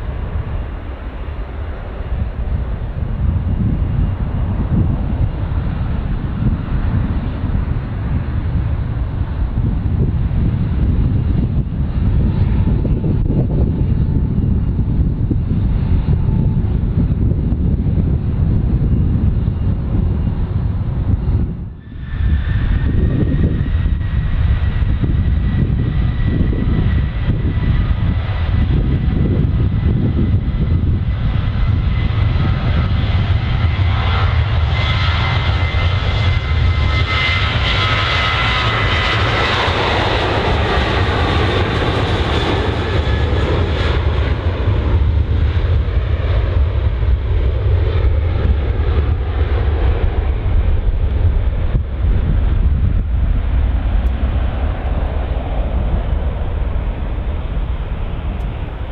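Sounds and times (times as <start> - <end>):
jet airliner engines passing: 0.0 - 58.9.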